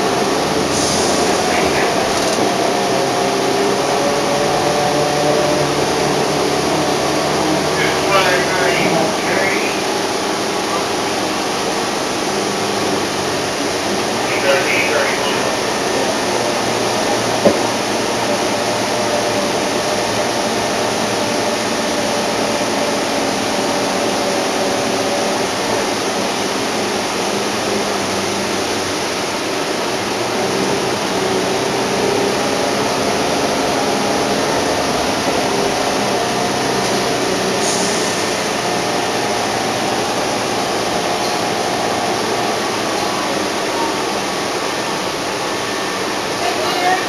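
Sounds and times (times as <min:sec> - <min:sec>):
bus engine running: 0:00.0 - 0:47.0
road noise: 0:00.0 - 0:47.0.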